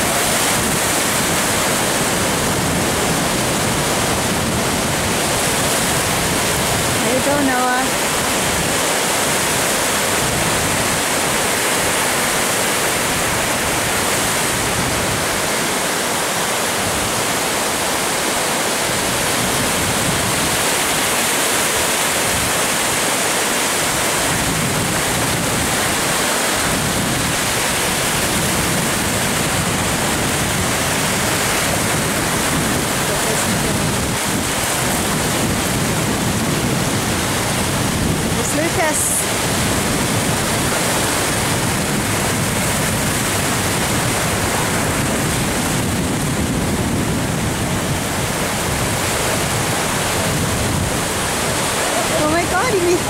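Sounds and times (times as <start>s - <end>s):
ocean surf breaking: 0.0s - 53.0s.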